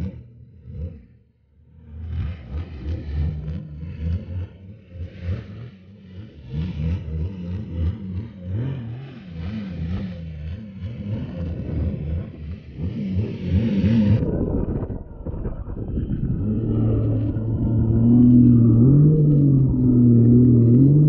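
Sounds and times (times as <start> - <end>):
jet ski engine: 0.0 - 21.0.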